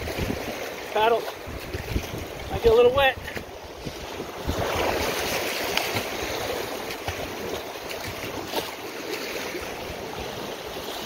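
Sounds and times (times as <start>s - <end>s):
short water splashes: 0.0s - 11.0s
whitewater rushing: 0.0s - 11.0s.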